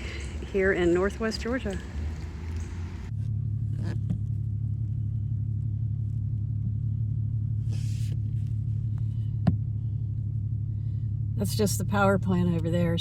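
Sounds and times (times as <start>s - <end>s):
car rumble from inside: 0.0s - 13.0s.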